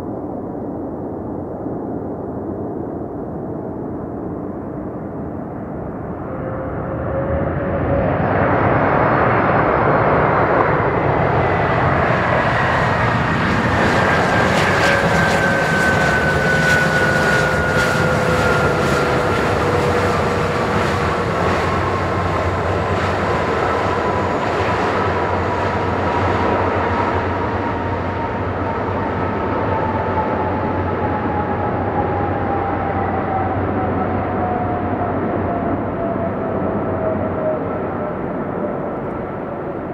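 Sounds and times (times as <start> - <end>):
jet engines passing close: 0.0 - 39.9.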